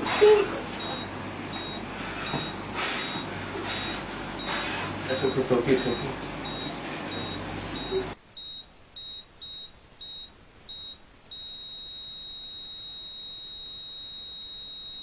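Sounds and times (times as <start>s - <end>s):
heart monitor beeping: 0.2s - 15.0s
heart monitor flatline tone: 0.2s - 15.0s.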